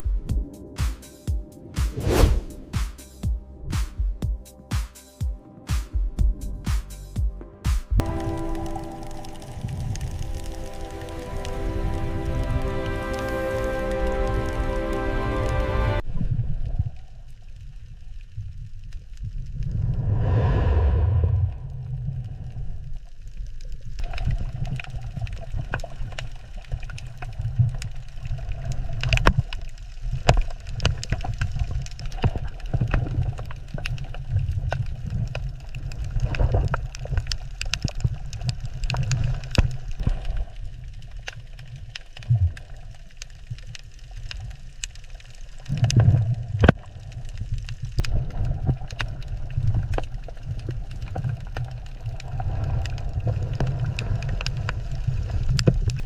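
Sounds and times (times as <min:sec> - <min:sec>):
underwater low rumble: 0:07.5 - 0:15.4, 0:16.0 - 0:56.0
underwater clicks and crackles: 0:08.0 - 0:14.6, 0:16.1 - 0:20.6, 0:21.5 - 0:56.0.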